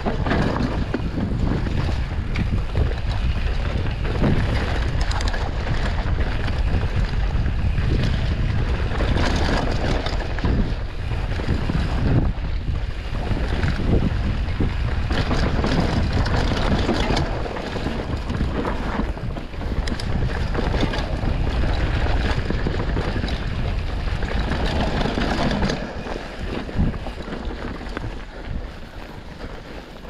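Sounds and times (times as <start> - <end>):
bike knocking and rattling: 0.0 - 30.0
bike tyres on dirt: 0.0 - 30.0
wind buffeting microphone: 0.0 - 30.0.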